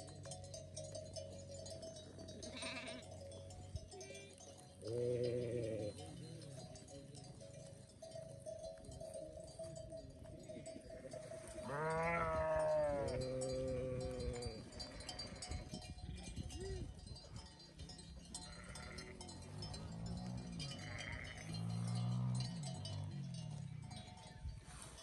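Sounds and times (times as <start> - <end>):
sheep and goats bleating: 1.9 - 7.3, 9.5 - 25.0.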